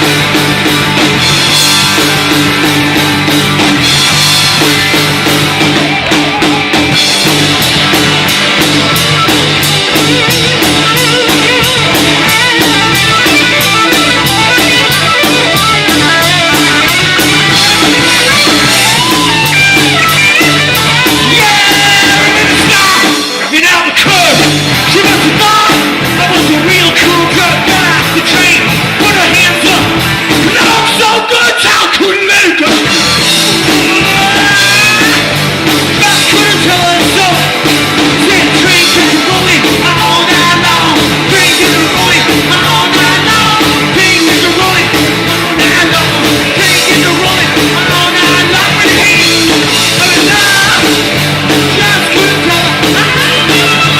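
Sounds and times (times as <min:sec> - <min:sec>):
fast driving drumbeat: 0:00.0 - 0:53.9
rock band playing live: 0:00.0 - 0:53.9.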